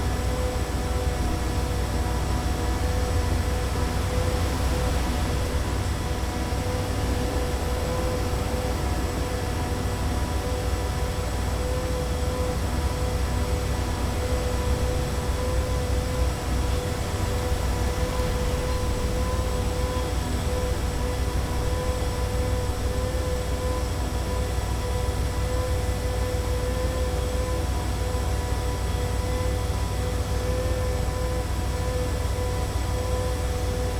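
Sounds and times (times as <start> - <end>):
low rumble of traffic: 0.0 - 33.9
machine hum: 0.0 - 33.9.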